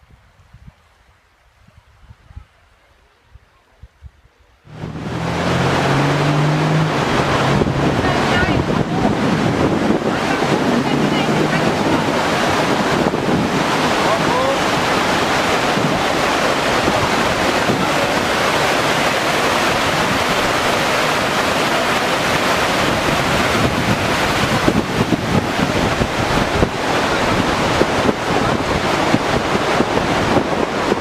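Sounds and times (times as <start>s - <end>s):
wind buffeting microphone: 0.0s - 31.0s
water rushing: 4.6s - 31.0s.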